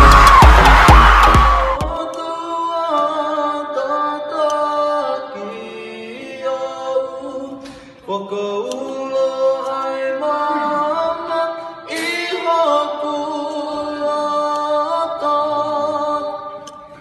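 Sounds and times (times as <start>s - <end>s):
woman and man singing in harmony: 1.8s - 17.0s.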